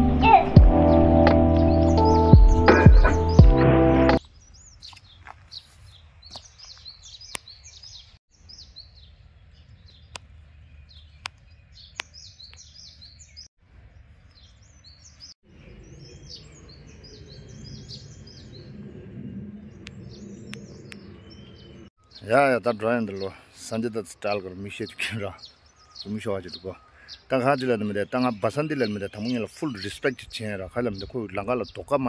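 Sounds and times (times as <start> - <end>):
small birds chirping: 4.2 - 32.0.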